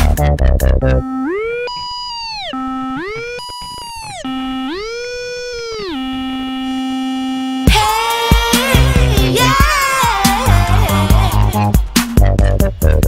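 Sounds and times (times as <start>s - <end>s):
electronic music with drums: 0.0s - 13.0s
synthesizer tone sliding: 0.0s - 13.0s.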